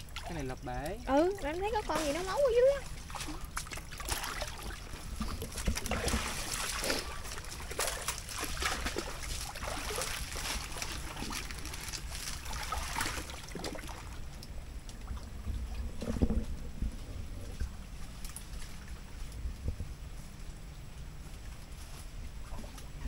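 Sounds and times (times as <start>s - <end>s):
muddy water splashing: 0.0s - 19.6s
dry palm fronds rustling: 0.0s - 23.0s.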